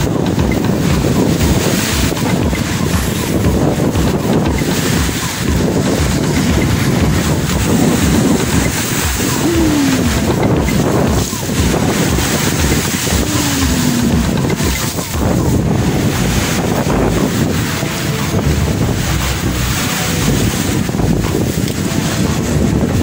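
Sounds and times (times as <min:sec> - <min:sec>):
waves splashing against seawall: 0:00.0 - 0:23.0
wind buffeting microphone: 0:00.0 - 0:23.0.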